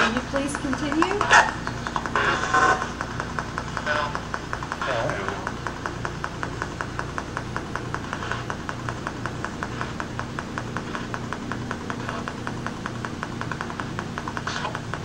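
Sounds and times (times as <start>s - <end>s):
low hum: 0.0s - 15.0s
rapid mechanical ticking: 0.0s - 15.0s.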